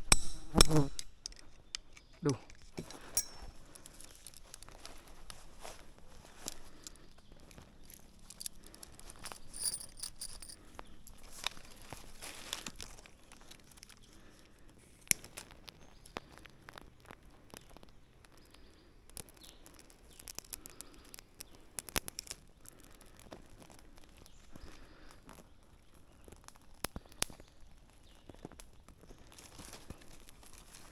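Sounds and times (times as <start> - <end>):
leaves and twigs rustling: 1.2 - 30.9.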